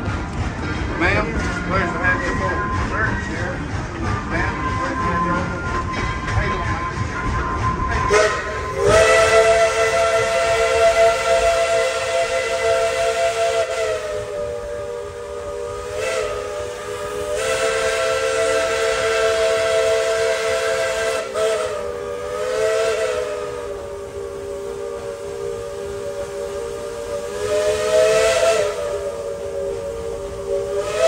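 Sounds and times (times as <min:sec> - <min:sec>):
steam hissing: 0:00.0 - 0:31.0
steam whistle chord: 0:01.6 - 0:31.0.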